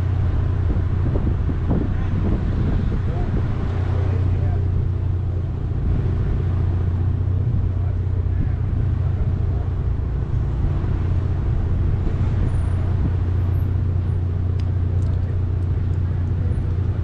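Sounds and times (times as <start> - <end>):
car engine hum: 0.0 - 17.0
street traffic: 0.0 - 17.0.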